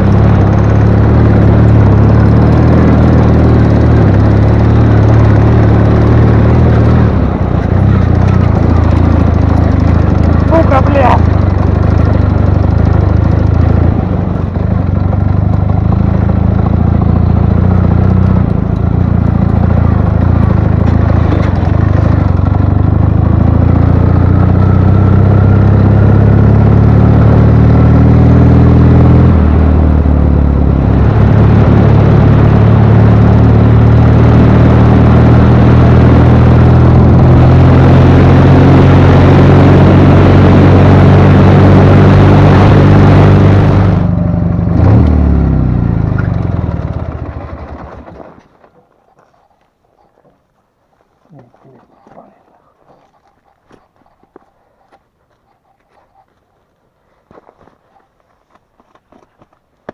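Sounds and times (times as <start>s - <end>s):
motorcycle engine running: 0.0s - 50.2s.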